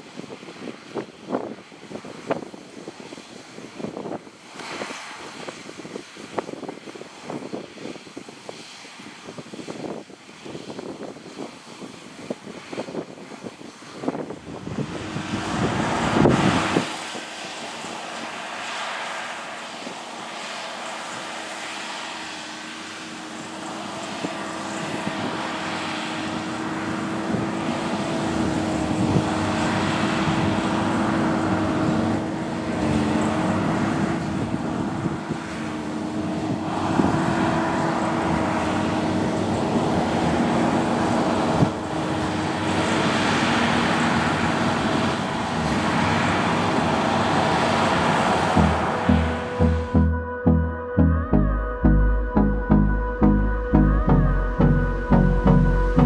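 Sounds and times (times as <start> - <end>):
combine harvester engine and threshing: 0.0 - 50.6.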